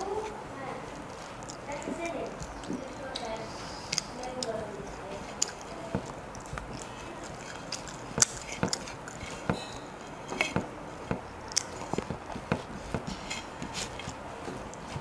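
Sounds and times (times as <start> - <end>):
fingers mixing rice on a plate: 0.0 - 15.0
chewing: 1.1 - 10.6, 11.2 - 15.0.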